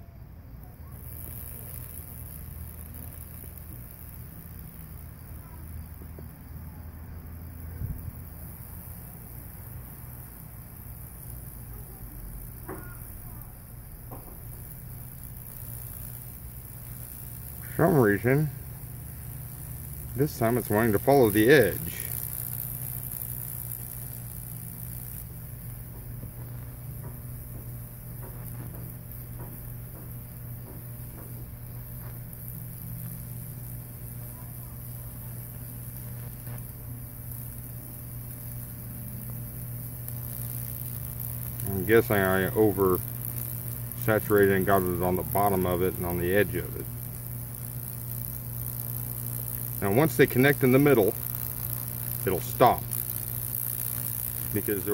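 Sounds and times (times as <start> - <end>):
burning wood hiss: 0.0 - 54.9
transformer humming: 0.0 - 54.9
crackles and pops of charring wood: 0.4 - 54.9.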